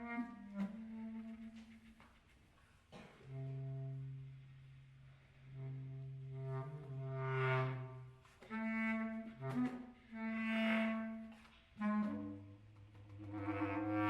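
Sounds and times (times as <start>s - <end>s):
solo clarinet: 0.0s - 2.1s, 3.2s - 14.0s.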